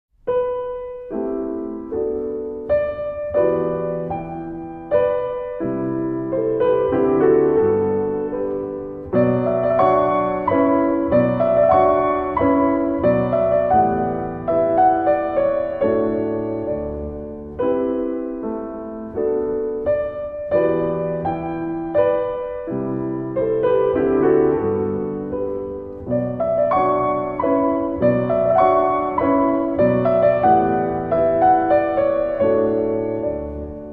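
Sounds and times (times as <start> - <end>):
calm piano chords: 0.1 - 33.9.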